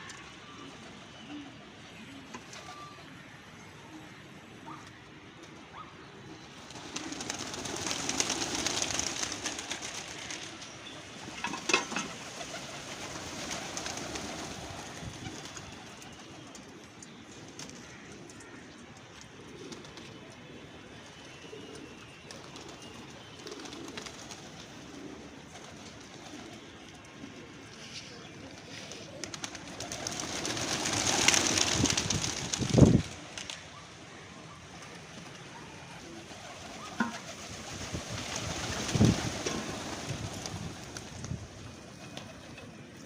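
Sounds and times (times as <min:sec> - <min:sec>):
pigeons cooing: 0:00.0 - 0:03.2, 0:03.8 - 0:16.8, 0:17.6 - 0:43.0.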